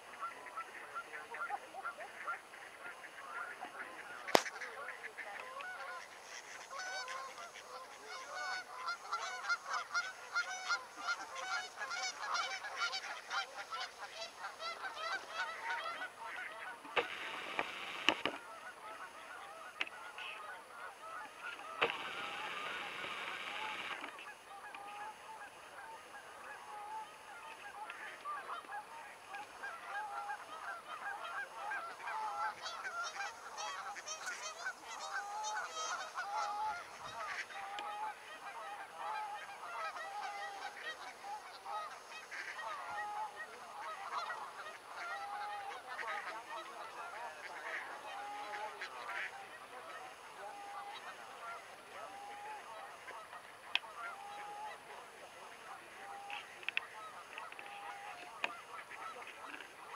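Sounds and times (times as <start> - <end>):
geese honking: 0.0 - 59.9.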